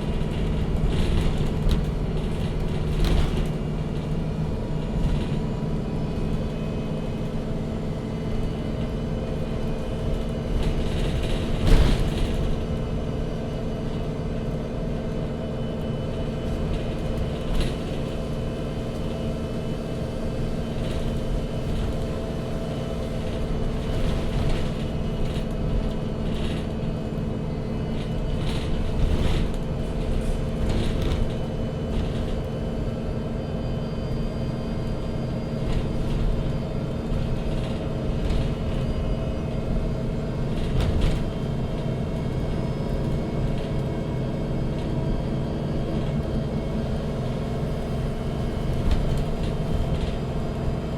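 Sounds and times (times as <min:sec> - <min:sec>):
bus body rattling: 0:00.0 - 0:50.9
bus engine hum: 0:00.0 - 0:50.9
low road rumble: 0:00.0 - 0:50.9.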